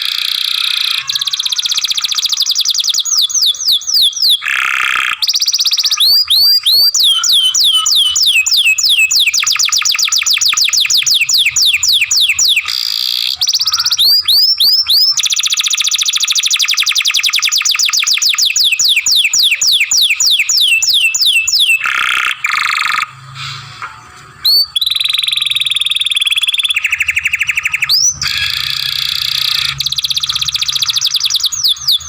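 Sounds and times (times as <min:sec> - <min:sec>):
canary singing: 0:00.0 - 0:23.2, 0:24.3 - 0:32.0.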